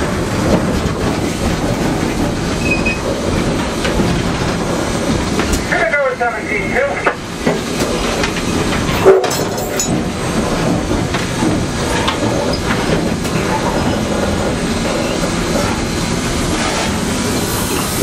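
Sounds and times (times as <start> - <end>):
rail clatter: 0.0 - 18.0
steam locomotive rumble: 0.0 - 18.0.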